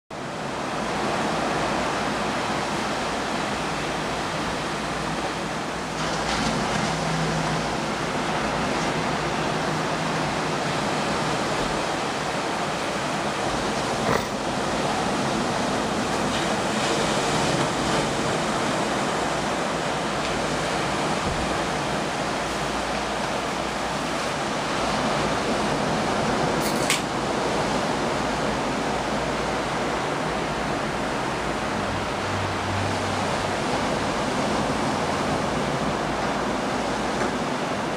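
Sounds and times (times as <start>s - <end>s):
ocean surf breaking: 0.2s - 37.9s.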